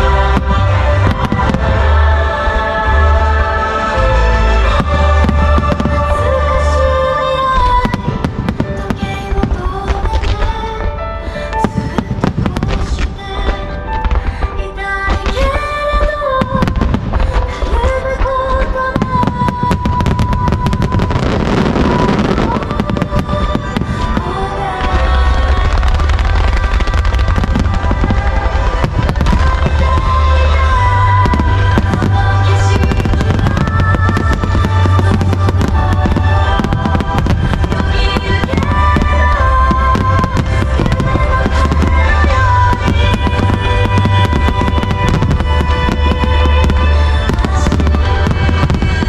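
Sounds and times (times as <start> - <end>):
fireworks bangs and crackling: 0.0 - 49.0
song playing: 0.0 - 49.0.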